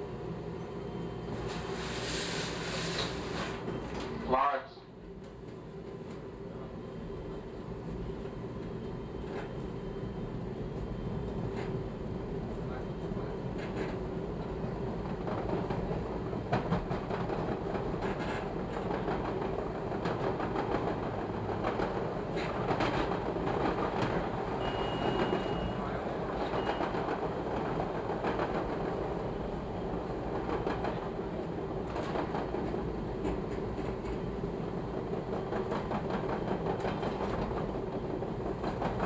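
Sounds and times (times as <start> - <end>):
train rumbling at speed: 0.0 - 39.0.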